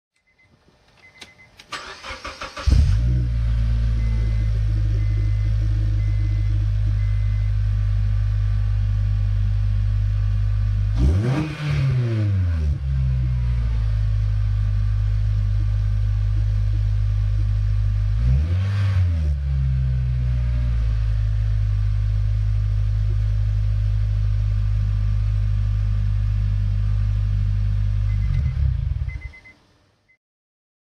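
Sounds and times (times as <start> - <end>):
car engine idling and revving: 1.9 - 29.5.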